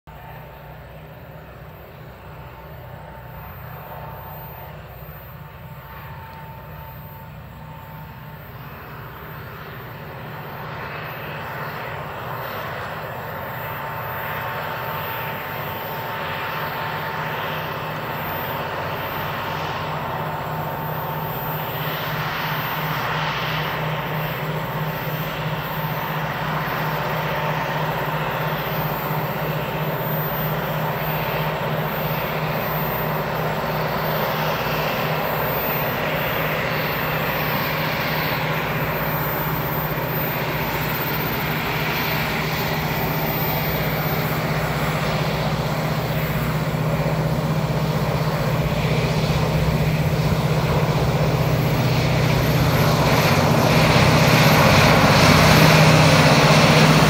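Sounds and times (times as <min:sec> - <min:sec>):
locomotive engines droning: 0:00.1 - 0:57.0.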